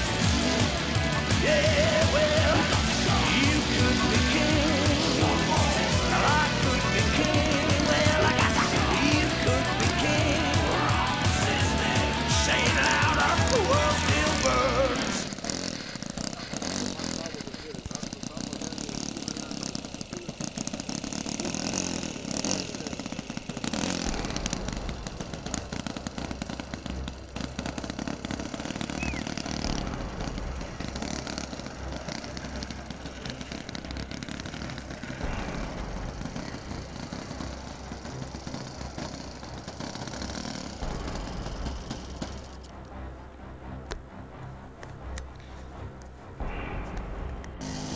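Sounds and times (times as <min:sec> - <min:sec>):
model airplane engine idling: 0:00.0 - 0:47.9.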